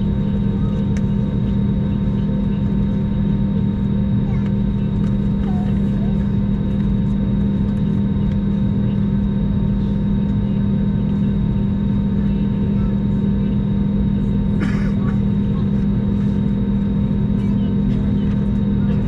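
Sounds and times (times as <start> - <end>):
airplane cabin engine hum: 0.0 - 19.0
jet engine whine: 0.0 - 19.0.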